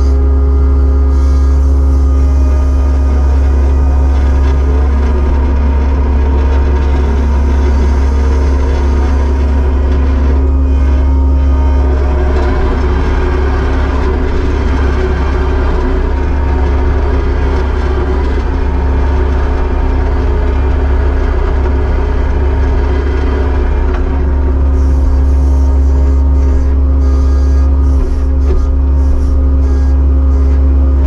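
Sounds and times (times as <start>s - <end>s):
diesel engine drone: 0.0s - 31.0s.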